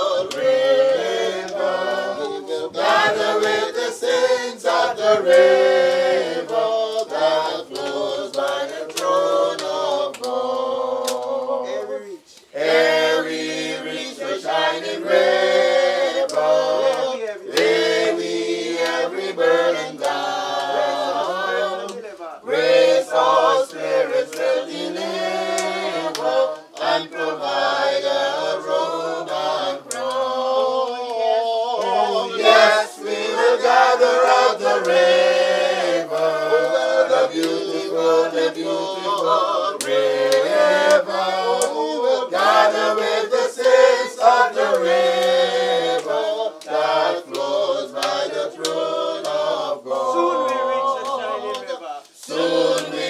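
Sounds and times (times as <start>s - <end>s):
group singing a hymn: 0.0s - 53.0s.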